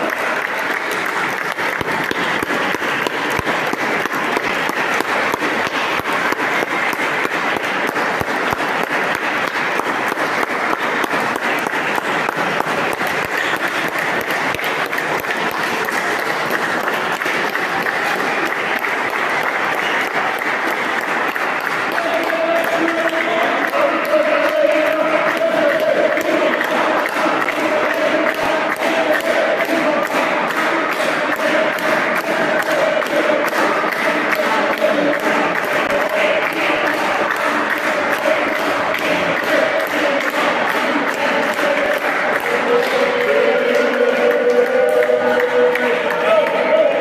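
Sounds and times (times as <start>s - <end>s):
crowd applause: 0.0s - 47.0s.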